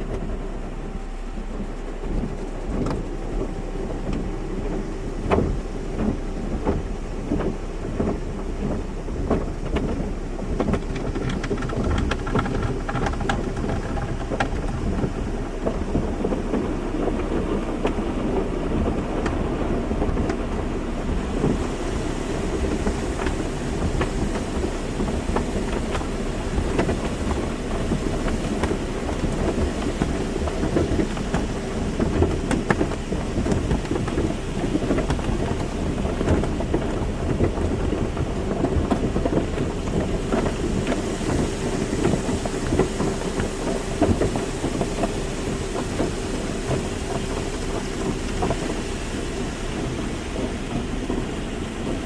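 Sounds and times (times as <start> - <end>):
low rumble: 0.0 - 52.0
water spray drumming on car: 0.0 - 52.0.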